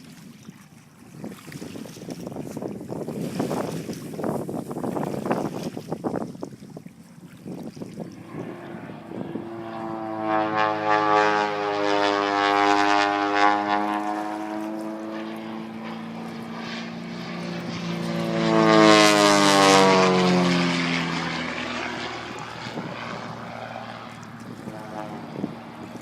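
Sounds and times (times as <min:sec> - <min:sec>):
propeller aircraft flying overhead: 0:00.1 - 0:26.0.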